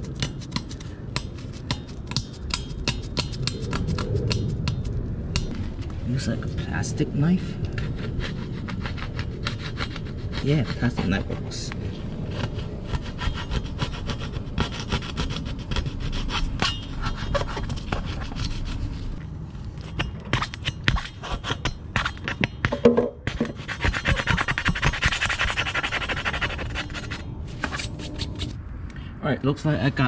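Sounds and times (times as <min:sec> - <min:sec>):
plastic knife scraping: 0:00.0 - 0:05.9, 0:07.6 - 0:19.2, 0:19.8 - 0:22.7, 0:23.3 - 0:28.6.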